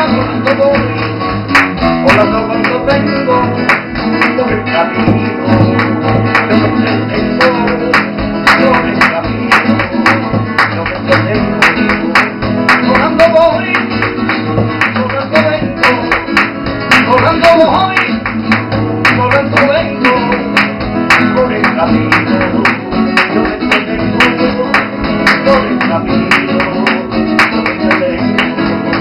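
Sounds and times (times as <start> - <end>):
flamenco guitar: 0.0 - 29.0
rhythmic hand-clapping: 0.0 - 29.0.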